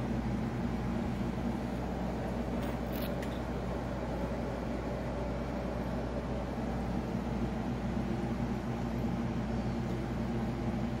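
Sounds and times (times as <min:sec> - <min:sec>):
aquarium filter pump hum: 0:00.0 - 0:11.0.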